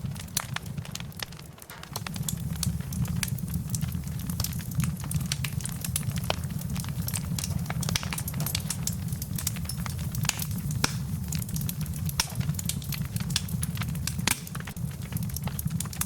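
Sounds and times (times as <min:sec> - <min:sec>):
campfire crackling and popping: 0:00.0 - 0:16.0
low steady rumble: 0:02.0 - 0:16.0.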